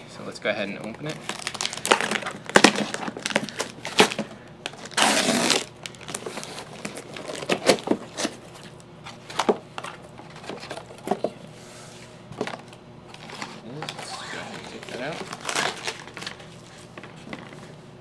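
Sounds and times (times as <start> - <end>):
packing tape tearing: 1.0 - 11.1, 13.1 - 17.6
cardboard and paper rustling: 1.0 - 11.3, 12.4 - 17.8.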